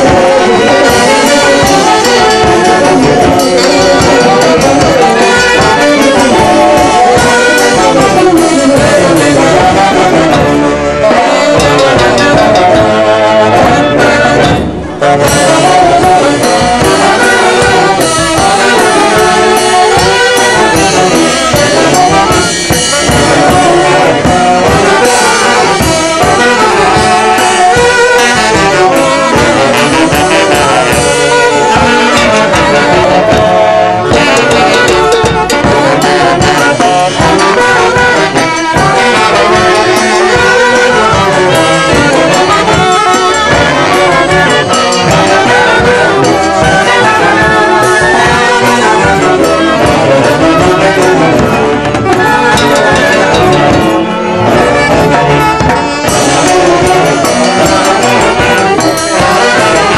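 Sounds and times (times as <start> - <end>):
band playing live: 0.0 - 59.9
saxophones playing melody: 0.0 - 59.9.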